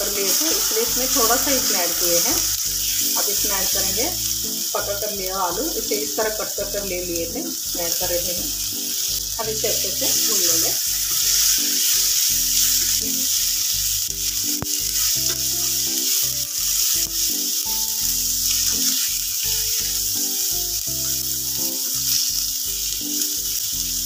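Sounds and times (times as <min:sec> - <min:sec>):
spatula stirring in a pan: 0:00.0 - 0:05.0, 0:07.6 - 0:23.7
potatoes sizzling in hot oil: 0:00.0 - 0:24.0.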